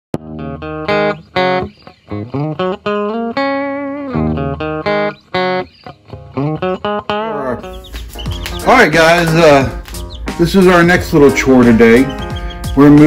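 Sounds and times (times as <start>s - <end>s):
plucked guitar melody: 0.2s - 13.0s.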